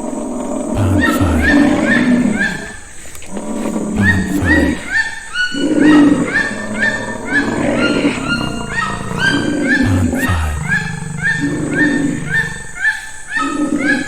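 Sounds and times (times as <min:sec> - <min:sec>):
rough animal growling: 0:00.0 - 0:14.0.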